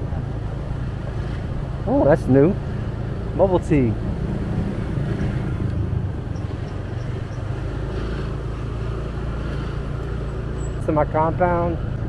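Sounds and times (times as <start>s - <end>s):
motorbike engine humming: 0.0s - 12.0s
road noise: 0.0s - 12.0s.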